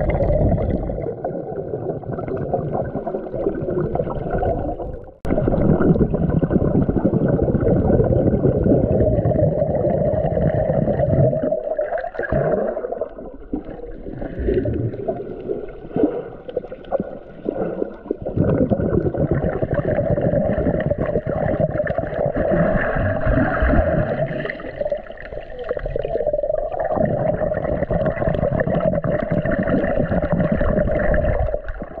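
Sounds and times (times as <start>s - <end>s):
underwater rushing gurgling water: 0.0s - 32.0s.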